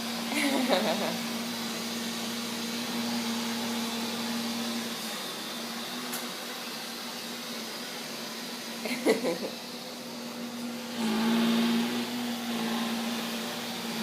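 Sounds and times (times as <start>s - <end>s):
electric appliance whirring: 0.0s - 14.0s.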